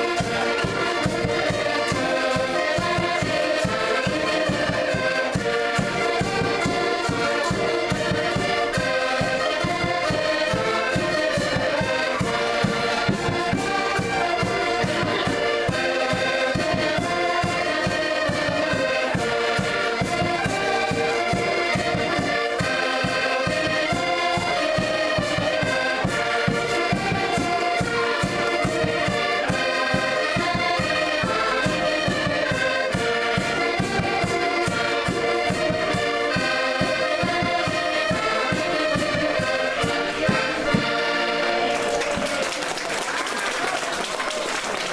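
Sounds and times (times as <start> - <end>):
button accordions playing folk music: 0.0 - 44.9.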